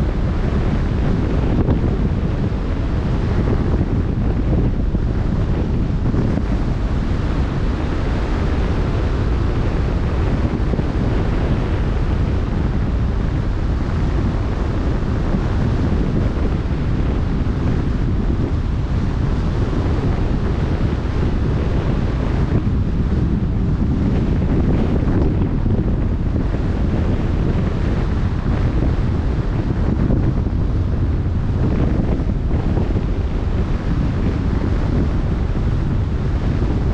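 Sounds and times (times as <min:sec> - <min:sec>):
choppy sea water rushing: 0:00.0 - 0:36.9
wind buffeting microphone: 0:00.0 - 0:36.9.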